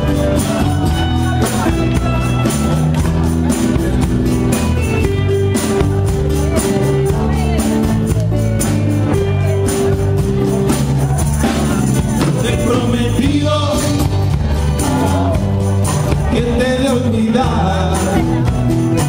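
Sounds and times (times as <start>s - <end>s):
live band playing latin dance music: 0.0s - 19.0s.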